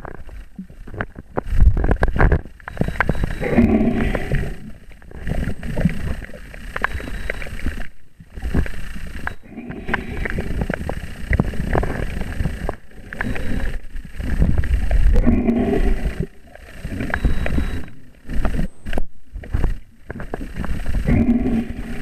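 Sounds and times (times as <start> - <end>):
crackles and clicks: 0.0 - 22.0
underwater sloshing and rumbling: 0.0 - 22.0.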